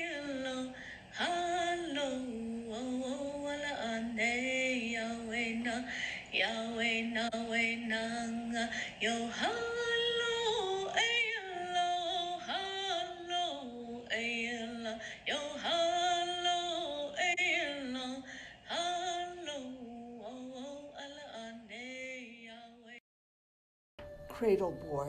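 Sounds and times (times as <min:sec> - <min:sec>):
person singing unaccompanied: 0:00.0 - 0:23.0.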